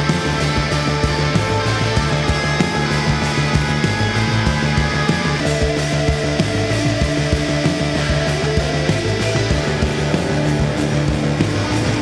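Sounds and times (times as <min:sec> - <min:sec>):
live band playing film music: 0:00.0 - 0:12.0.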